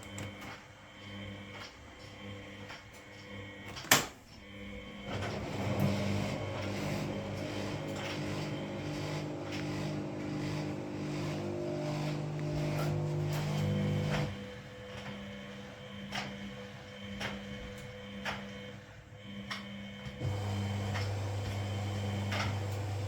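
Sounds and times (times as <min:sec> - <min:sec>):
washing machine drum motor humming: 0:00.0 - 0:23.0.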